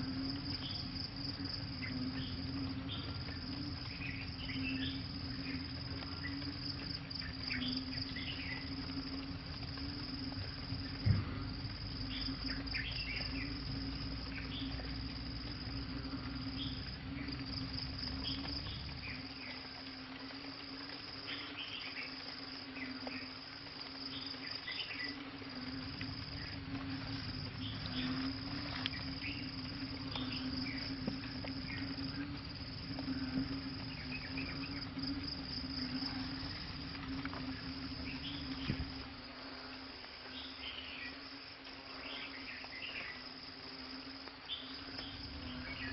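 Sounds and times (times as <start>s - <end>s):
high pulsing insect trill: 0.0s - 45.9s
low pulsing insect drone: 0.0s - 45.9s.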